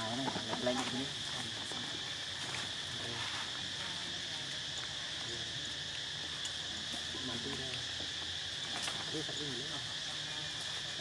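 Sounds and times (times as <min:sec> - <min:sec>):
forest insects droning: 0:00.0 - 0:11.0.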